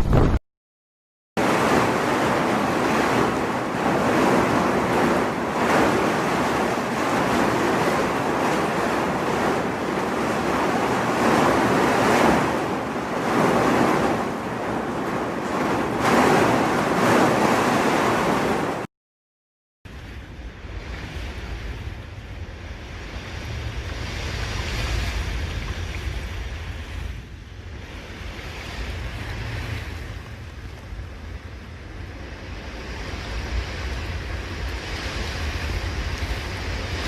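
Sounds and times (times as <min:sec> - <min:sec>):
heavy surf: 0:00.0 - 0:00.4, 0:01.4 - 0:18.9, 0:19.9 - 0:37.0
wind: 0:00.0 - 0:00.4, 0:01.4 - 0:18.9, 0:19.9 - 0:37.0.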